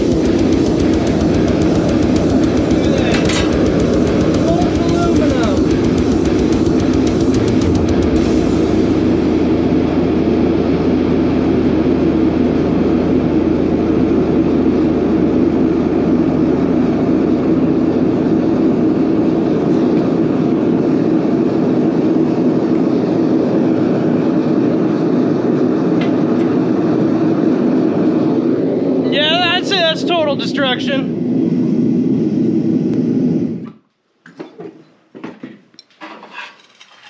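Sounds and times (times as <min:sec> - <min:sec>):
microwave oven droning: 0:00.0 - 0:33.9.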